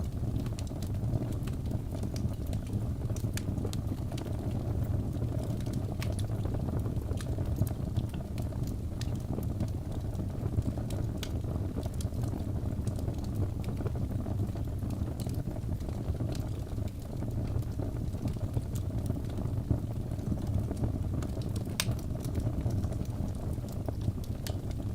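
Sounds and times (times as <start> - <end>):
wood crackling and popping: 0.0 - 24.9.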